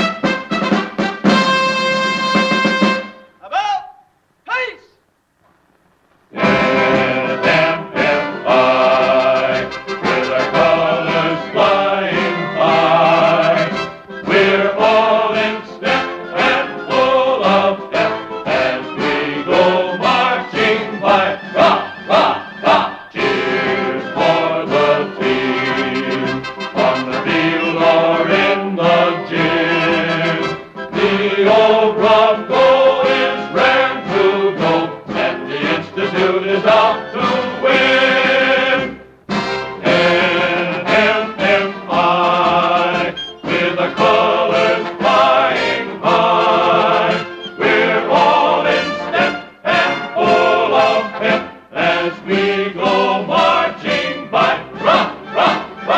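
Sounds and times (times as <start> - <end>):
orchestral music with choir: 6.4 - 55.9.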